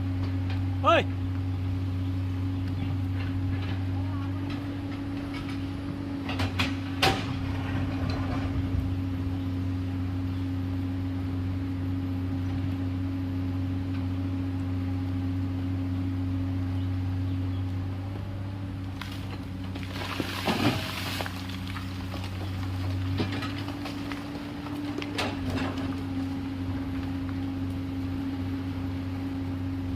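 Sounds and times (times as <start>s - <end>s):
excavator diesel engine droning: 0.0s - 29.9s.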